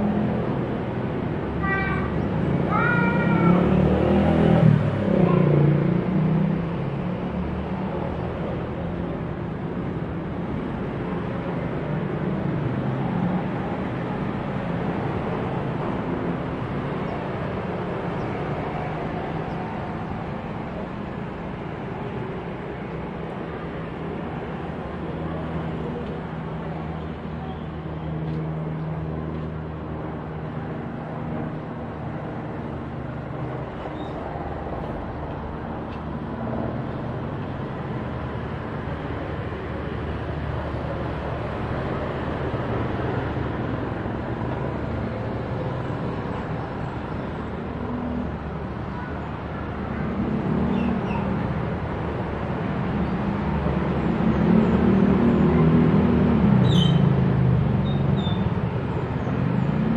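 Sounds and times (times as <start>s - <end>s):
propeller plane droning overhead: 0.0s - 59.9s.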